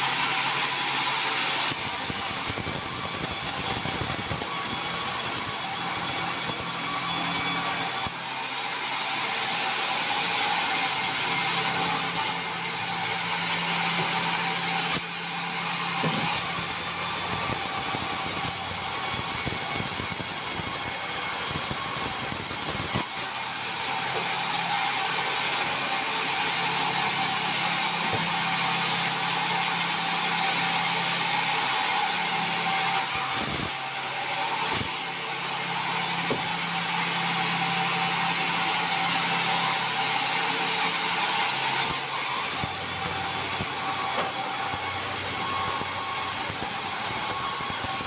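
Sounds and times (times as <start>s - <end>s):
band saw sawing timber: 0.0s - 48.0s.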